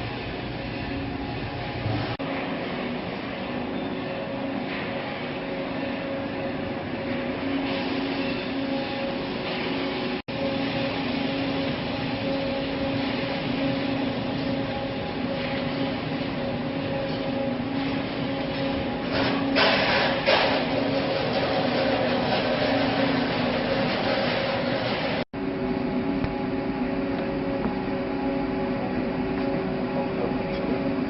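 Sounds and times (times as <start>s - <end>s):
machine humming: 0.0s - 31.0s.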